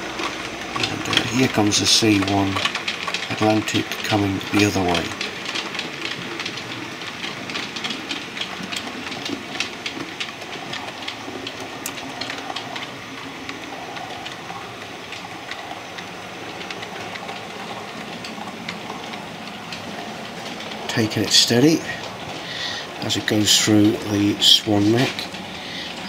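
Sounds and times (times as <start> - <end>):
model train running on track: 0.0 - 26.0
wheels clicking over rail joints: 0.0 - 26.0.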